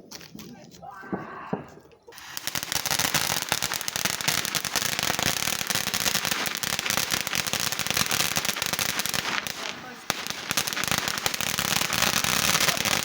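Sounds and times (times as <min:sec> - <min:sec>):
fireworks crackling: 0:01.6 - 0:13.0.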